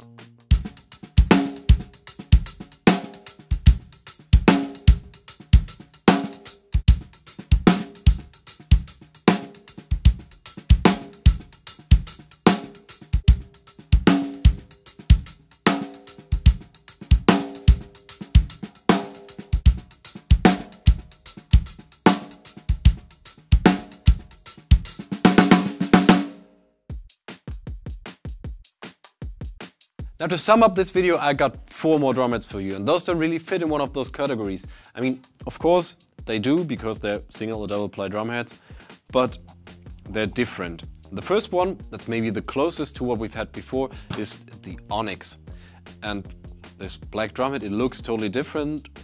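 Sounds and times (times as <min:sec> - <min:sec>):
drum kit playing a beat: 0:00.0 - 0:49.0.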